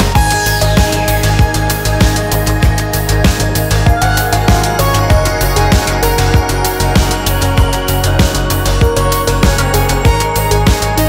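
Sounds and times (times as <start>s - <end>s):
deep bass line: 0.0s - 11.0s
electronic music with fast drum beat: 0.0s - 11.0s.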